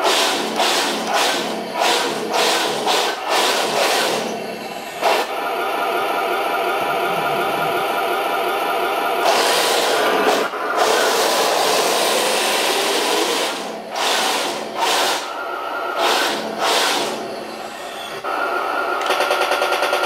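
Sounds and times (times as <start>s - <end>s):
electric motors whining: 0.0s - 19.1s
fast even pulsing: 0.6s - 17.3s.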